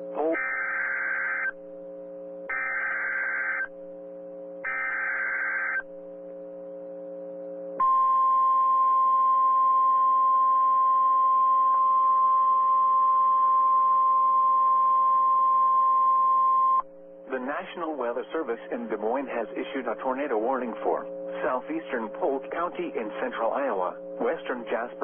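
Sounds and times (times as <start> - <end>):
steady warning tone: 0.0 - 25.0
low hum: 1.5 - 24.9.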